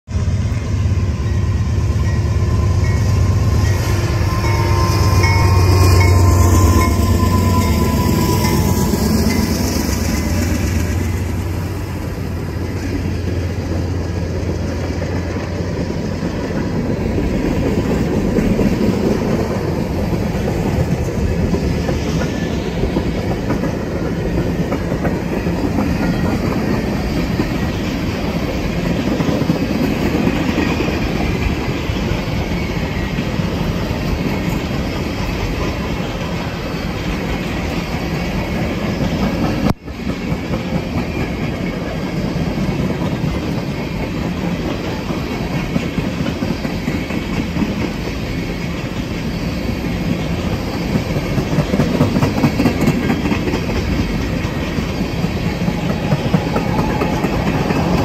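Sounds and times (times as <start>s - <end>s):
diesel locomotive engines droning: 0.1s - 58.0s
train wheels clicking over rail joints: 3.6s - 58.0s.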